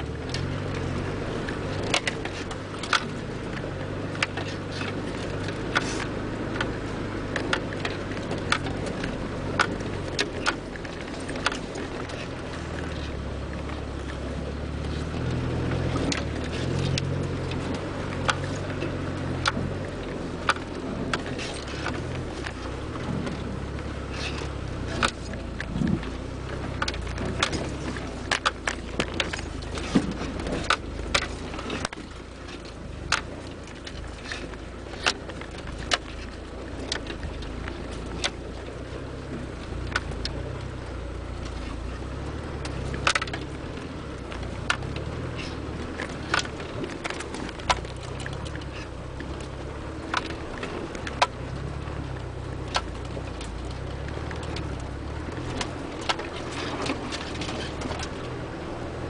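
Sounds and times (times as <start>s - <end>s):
diesel engine running low: 0.0s - 59.0s
knocks and rattles of vehicle body: 0.0s - 59.0s.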